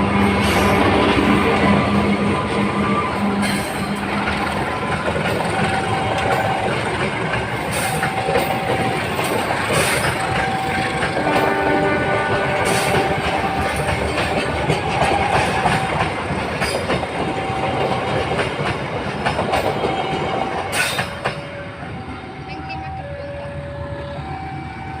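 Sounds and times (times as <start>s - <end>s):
train wheels clattering over rails: 0.0s - 22.0s.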